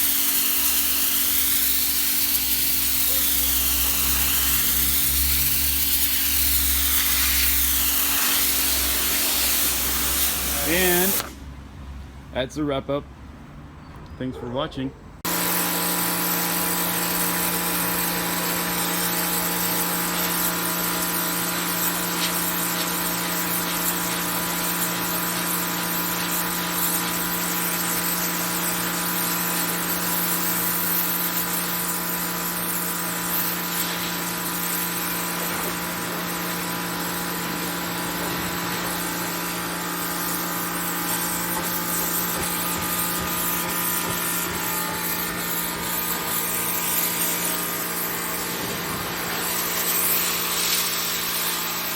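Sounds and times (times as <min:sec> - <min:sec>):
water spray hissing: 0:00.0 - 0:11.4, 0:15.3 - 0:51.9
pressure washer humming: 0:00.0 - 0:11.6, 0:15.2 - 0:51.9.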